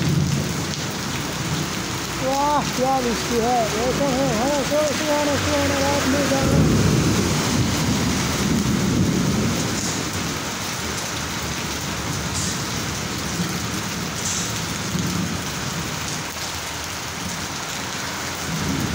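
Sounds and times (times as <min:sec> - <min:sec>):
heavy rain on ground: 0:00.0 - 0:18.9.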